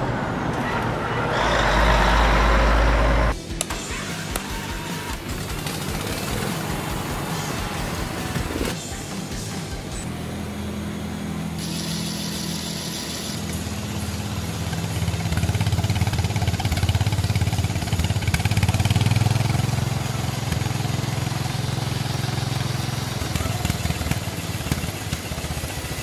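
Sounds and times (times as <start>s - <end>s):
motor throbbing: 1.3s - 25.9s.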